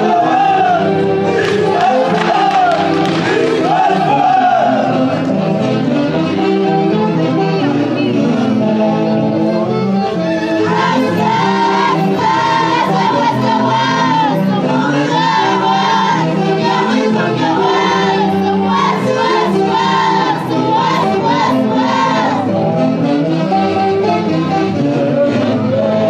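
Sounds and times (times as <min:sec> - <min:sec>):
orchestra accompaniment: 0:00.0 - 0:26.0.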